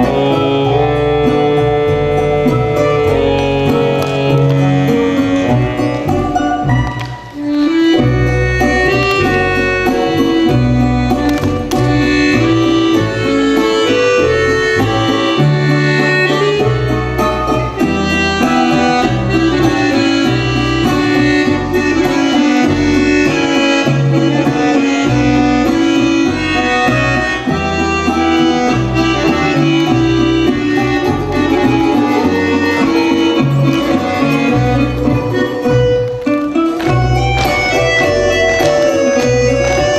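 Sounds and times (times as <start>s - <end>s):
instrumental music: 0.0s - 39.9s.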